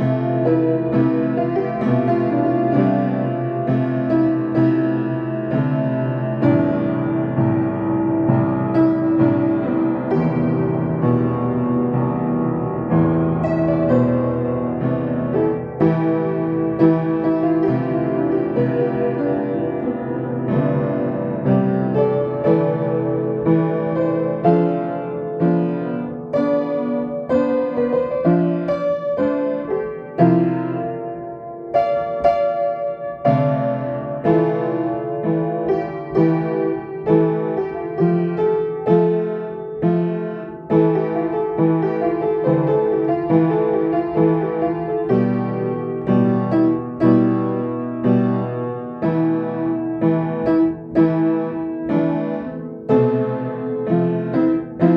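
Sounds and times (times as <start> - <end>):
calm solo piano: 0.0 - 54.9.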